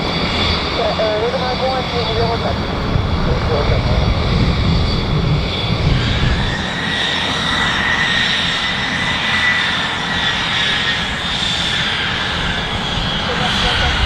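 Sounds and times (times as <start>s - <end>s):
aircraft engine whine: 0.0s - 14.0s.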